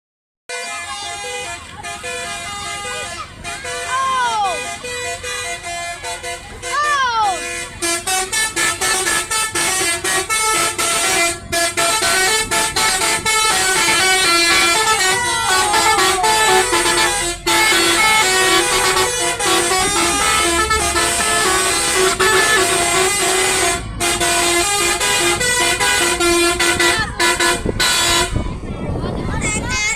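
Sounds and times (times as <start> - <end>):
musical bus horns playing melodies: 0.5 - 28.7.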